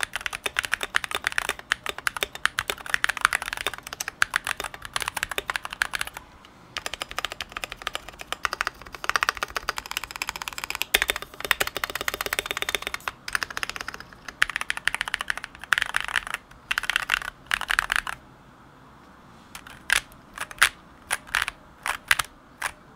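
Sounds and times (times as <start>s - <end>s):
mechanical keyboard typing: 0.0s - 6.2s, 6.8s - 18.2s, 19.6s - 22.9s.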